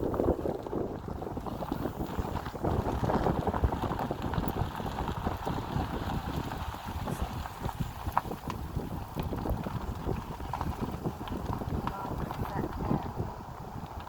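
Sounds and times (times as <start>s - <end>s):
low uneven rumble: 0.0s - 14.0s
wind buffeting microphone: 0.0s - 14.0s.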